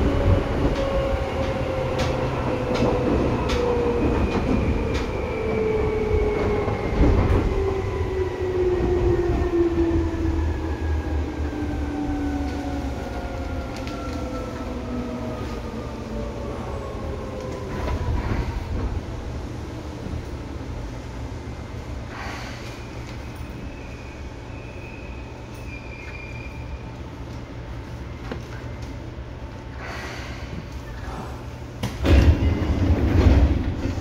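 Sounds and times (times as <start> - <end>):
low train running rumble: 0.0 - 34.0.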